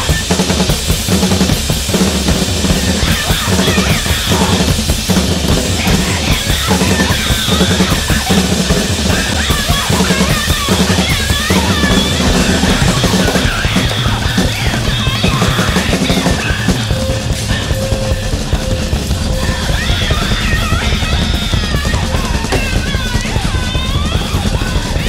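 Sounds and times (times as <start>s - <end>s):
bass drums pounding: 0.0s - 25.0s.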